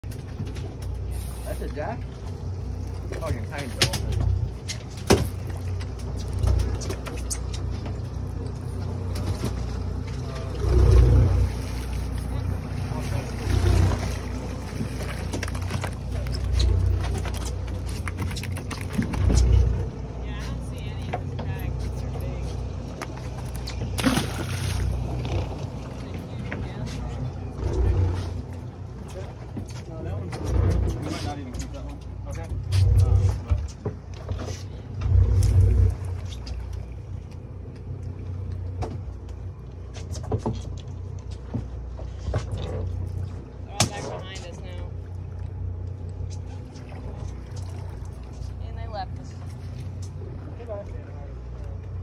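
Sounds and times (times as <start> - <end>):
outboard engines idling: 0.0 - 52.0.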